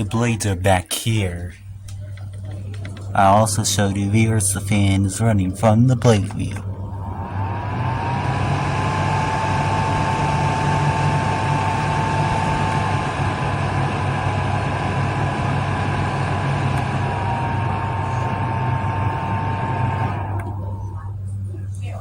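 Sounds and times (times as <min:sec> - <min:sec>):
cooler fan blowing air: 0:00.0 - 0:22.0
low motor hum: 0:01.3 - 0:22.0
whine of spinning fan blades: 0:01.6 - 0:22.0.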